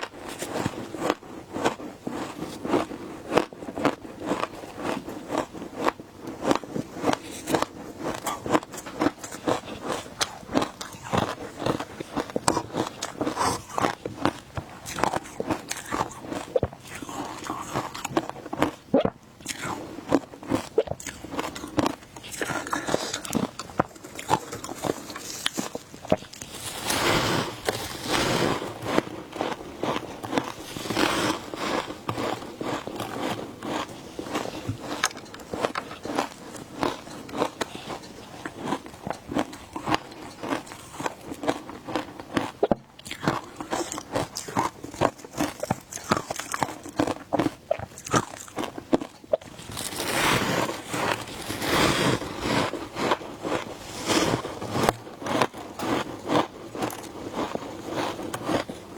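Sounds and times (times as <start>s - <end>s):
person crunching ice: 0.0s - 58.9s.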